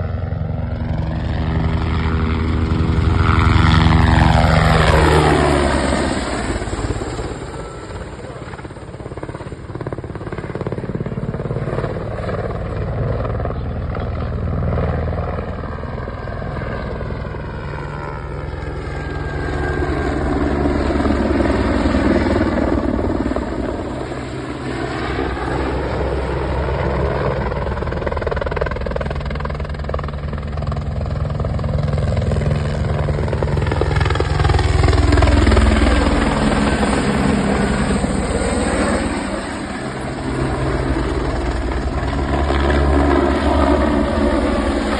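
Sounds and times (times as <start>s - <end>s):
helicopter flying: 0.0s - 44.9s.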